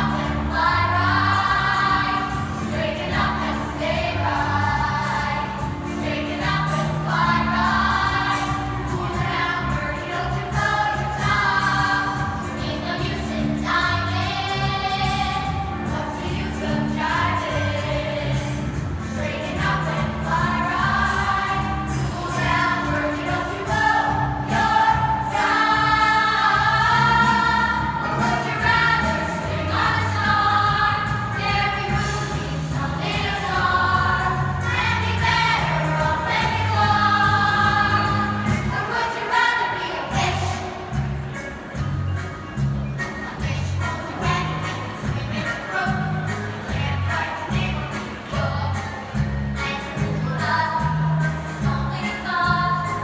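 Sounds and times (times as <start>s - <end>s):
children's choir singing: 0.0s - 41.6s, 43.1s - 53.0s
instrumental accompaniment: 0.0s - 53.0s.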